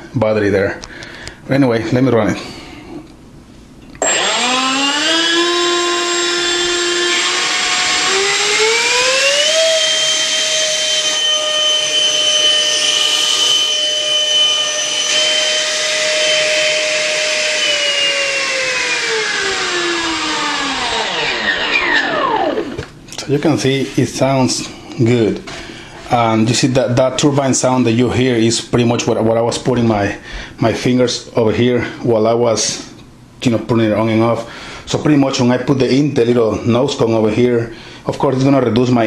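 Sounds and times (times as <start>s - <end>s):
electric fan turbine-like whine: 4.0s - 39.0s.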